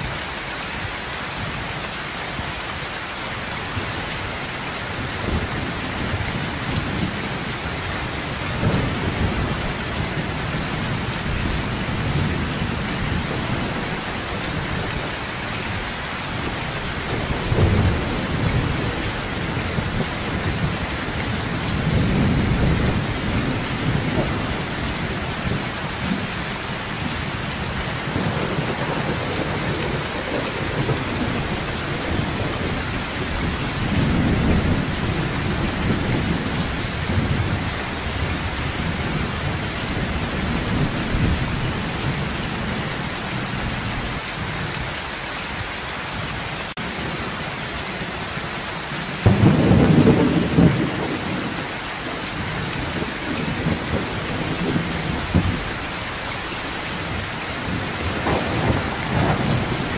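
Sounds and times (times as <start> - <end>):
heavy rain on metal roof: 0.0 - 59.9
thunder rumbling: 5.0 - 44.2, 49.2 - 59.9.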